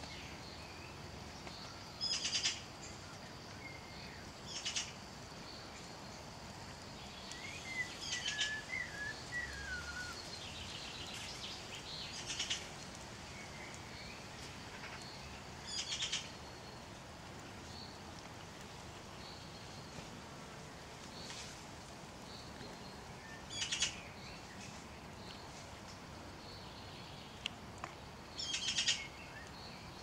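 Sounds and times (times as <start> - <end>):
songbirds singing: 0.0 - 30.0
steady background hiss: 0.0 - 30.0.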